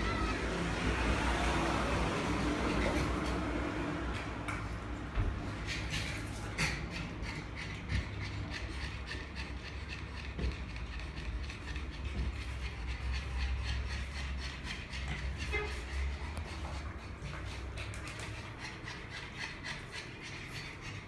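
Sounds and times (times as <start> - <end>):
dogs panting raspily: 0.0 - 21.0.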